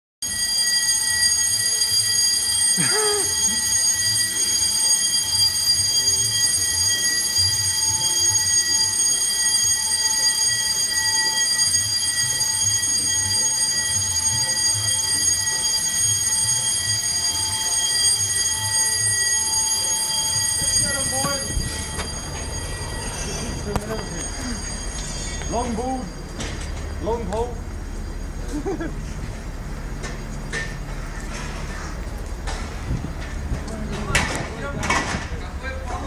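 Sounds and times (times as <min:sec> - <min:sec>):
fire alarm steady tone: 0:00.2 - 0:36.0.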